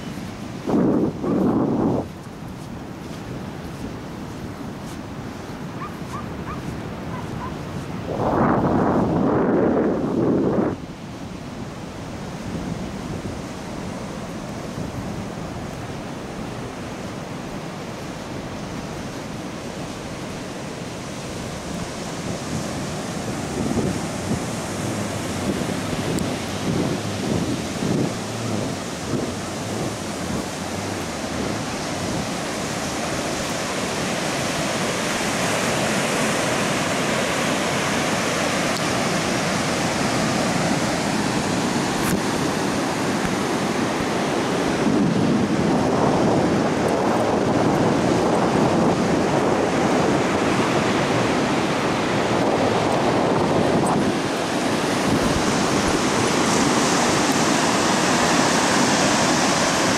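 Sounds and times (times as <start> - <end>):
ocean surf breaking on sand: 0.0 - 59.9.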